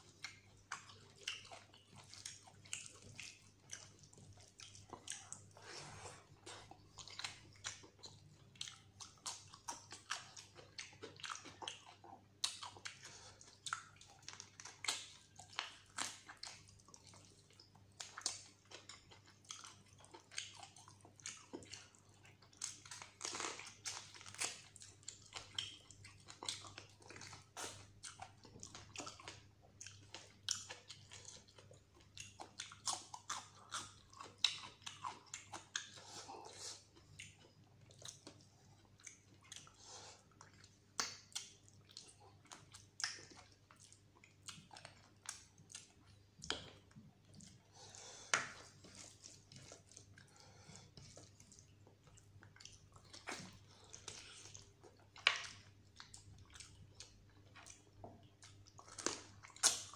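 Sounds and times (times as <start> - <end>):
wet chewing and lip smacks: 0.0 - 59.9.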